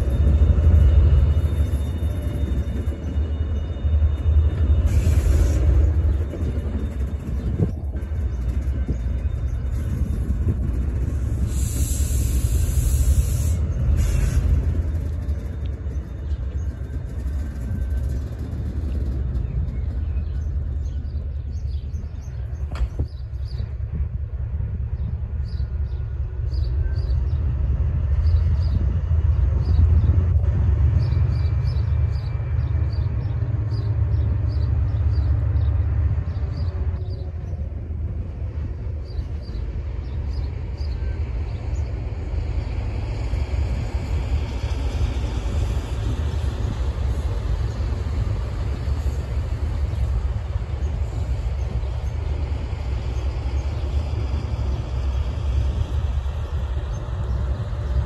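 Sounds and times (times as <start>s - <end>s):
diesel locomotive engines rumbling: 0.0s - 58.0s
wind buffeting microphone: 4.5s - 58.0s.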